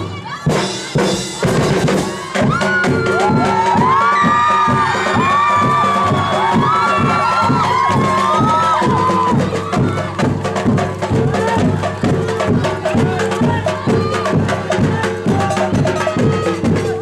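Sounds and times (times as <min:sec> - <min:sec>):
percussion-driven folk music: 0:00.0 - 0:17.0.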